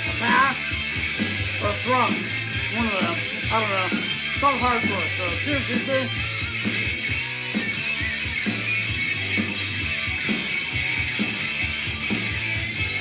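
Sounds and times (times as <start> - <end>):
punk rock through speakers: 0.0 - 13.0.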